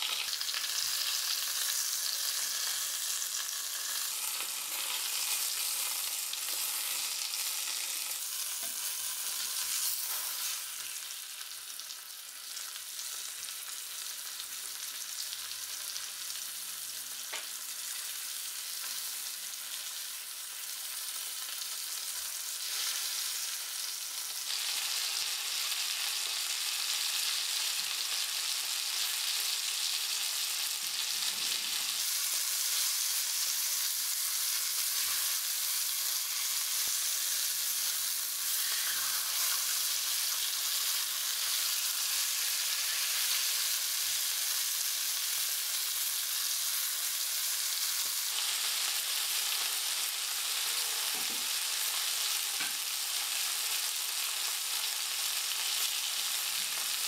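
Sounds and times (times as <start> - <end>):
chicken sizzling in a skillet: 0.0 - 57.0.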